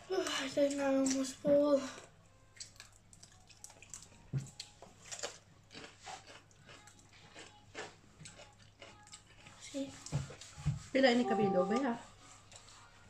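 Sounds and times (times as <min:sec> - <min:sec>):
people chewing: 0:00.0 - 0:10.9, 0:11.8 - 0:13.0.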